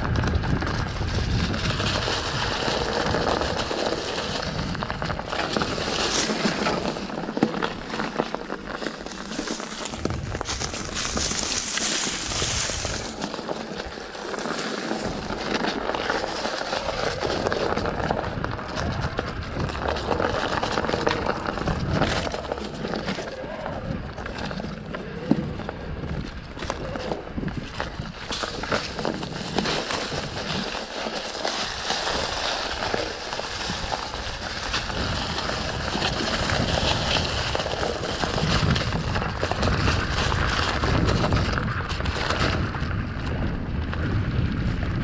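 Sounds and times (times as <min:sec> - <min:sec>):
bike rattling over bumps: 0:00.0 - 0:45.0
bike tyres rustling over leaves: 0:00.0 - 0:45.0.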